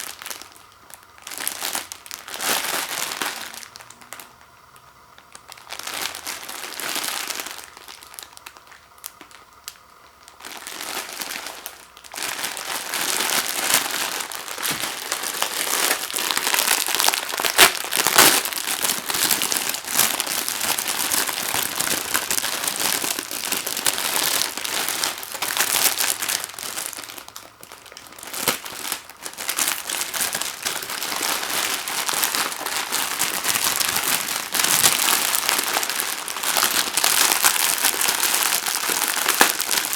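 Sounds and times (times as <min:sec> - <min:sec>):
plastic wrapping crackling: 0:00.0 - 0:39.9.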